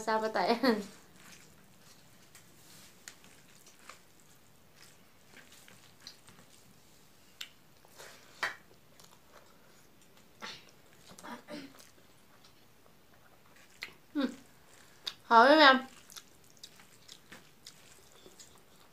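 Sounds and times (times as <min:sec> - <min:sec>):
wet squishing of rice by hand: 0:00.0 - 0:18.9
mouth sounds of chewing: 0:00.7 - 0:18.9.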